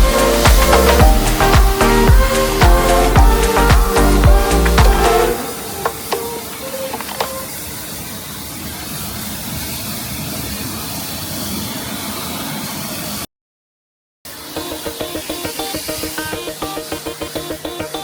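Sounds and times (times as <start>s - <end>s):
pressure washer spray hissing: 0.0s - 13.3s, 14.3s - 18.0s.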